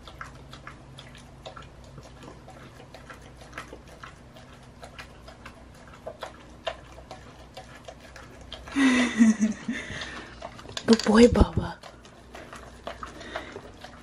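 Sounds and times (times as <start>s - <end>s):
dog licking from metal bowl: 0.0s - 14.0s.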